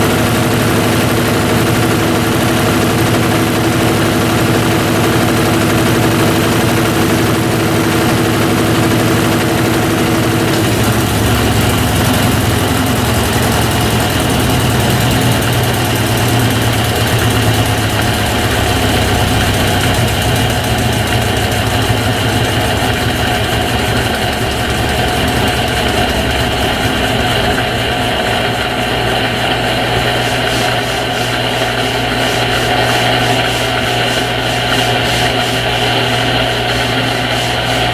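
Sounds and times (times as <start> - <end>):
washing machine draining hum: 0.0 - 37.9.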